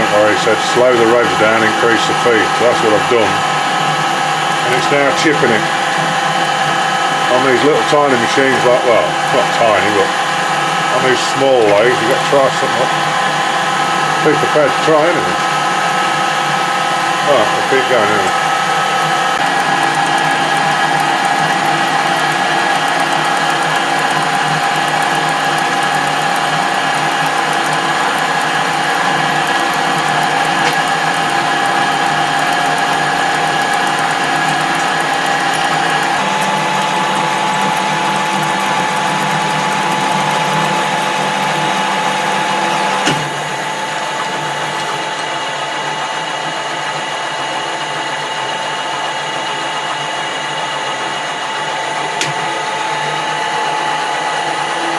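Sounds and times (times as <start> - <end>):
lathe cutting metal into chips: 0.0 - 54.9
metal lathe gears whining: 0.0 - 54.9.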